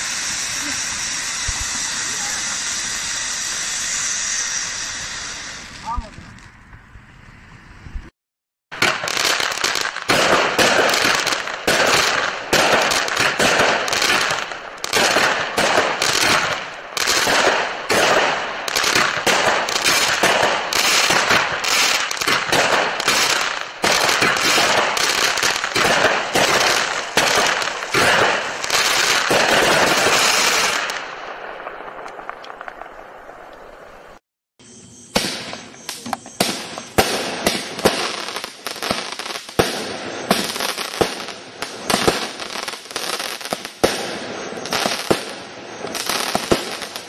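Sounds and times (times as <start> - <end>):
firework bangs: 0.0 - 6.6, 8.7 - 34.2, 35.0 - 47.0.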